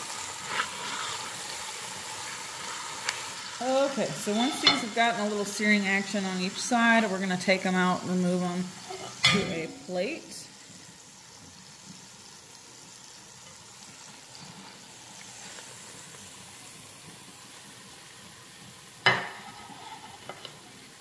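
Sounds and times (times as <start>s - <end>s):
hot oil sizzling in a pot: 0.0s - 21.0s.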